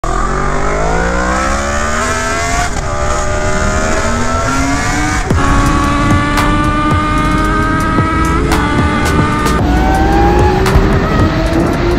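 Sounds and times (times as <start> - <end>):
motorcycle engine accelerating: 0.0 - 11.9
motorcycle engine at highway speed: 0.0 - 11.9.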